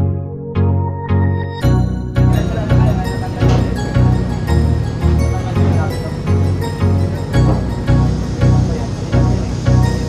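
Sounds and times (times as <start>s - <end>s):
music with bass line: 0.0s - 10.0s.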